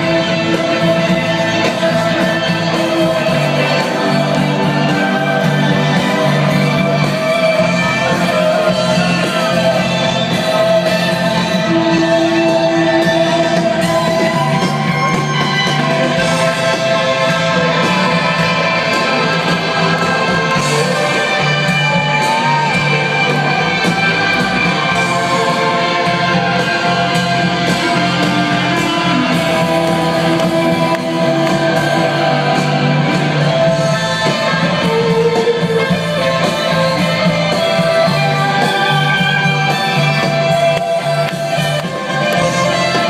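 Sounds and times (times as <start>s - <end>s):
bass and drums: 0.0s - 43.0s.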